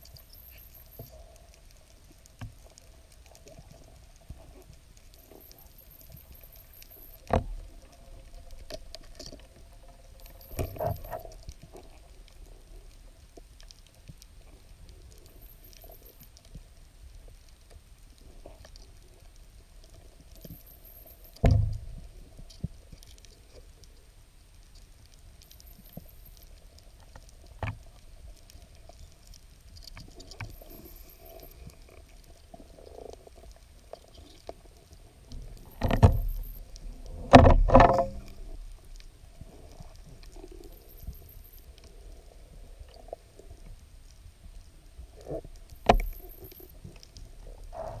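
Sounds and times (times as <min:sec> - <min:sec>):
faint steady hum: 0:00.0 - 0:48.0
underwater clicks and crackles: 0:00.0 - 0:48.0.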